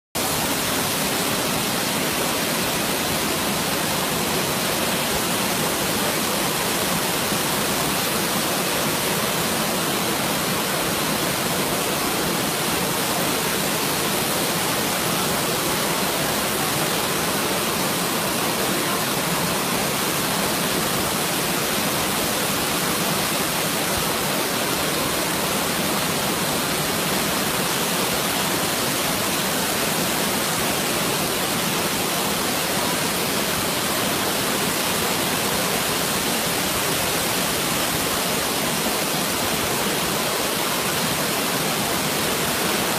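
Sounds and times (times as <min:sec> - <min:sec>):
waterfall rushing over boulders: 0:00.2 - 0:42.9.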